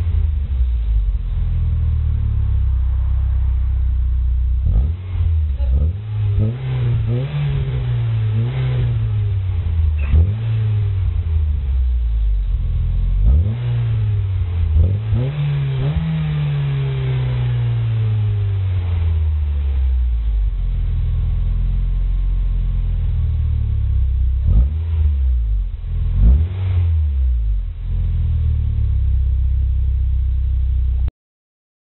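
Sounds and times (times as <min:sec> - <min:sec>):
car engine revving: 0:00.0 - 0:31.1.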